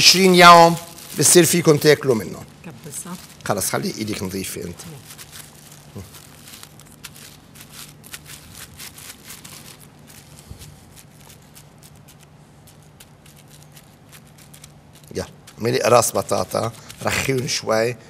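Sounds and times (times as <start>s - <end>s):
plastic sheet crinkling: 0.0s - 18.0s.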